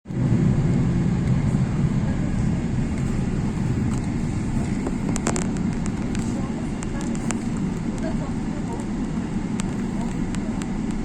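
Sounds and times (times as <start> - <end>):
airliner rumble: 0.0 - 11.0.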